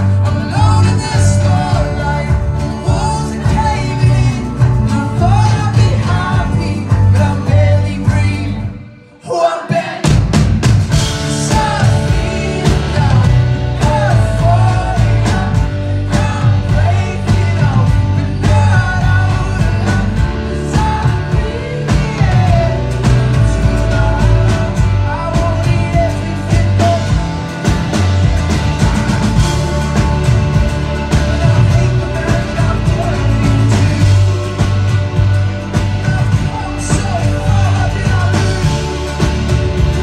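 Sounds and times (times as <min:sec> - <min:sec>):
live band playing pop-rock: 0:00.0 - 0:40.0.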